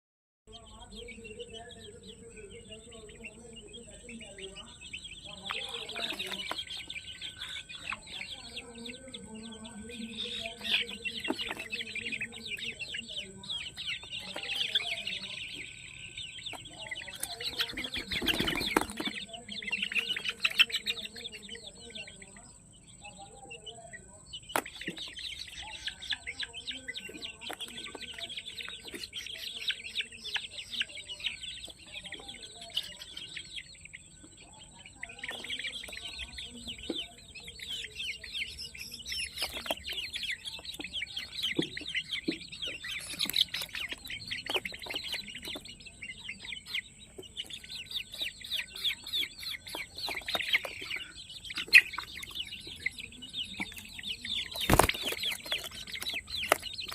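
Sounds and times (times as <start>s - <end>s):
chicks peeping: 0.5s - 56.9s
hen clucking: 0.5s - 56.9s.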